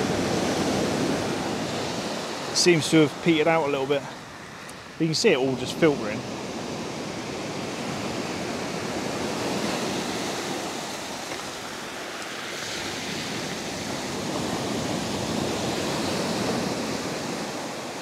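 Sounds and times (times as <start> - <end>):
small waves washing on beach: 0.0 - 18.0.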